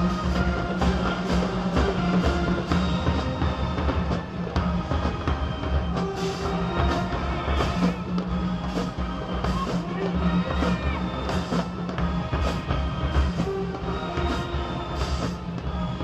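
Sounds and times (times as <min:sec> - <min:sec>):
brass band playing: 0:00.0 - 0:16.0
drums: 0:00.0 - 0:16.0.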